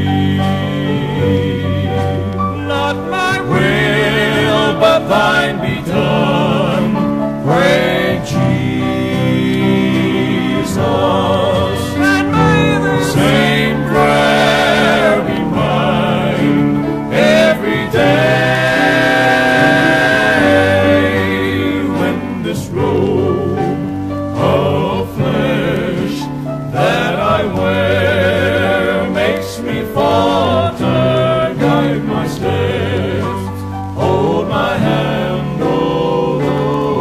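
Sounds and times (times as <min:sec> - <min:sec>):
male quartet singing hymn: 0:00.0 - 0:37.0.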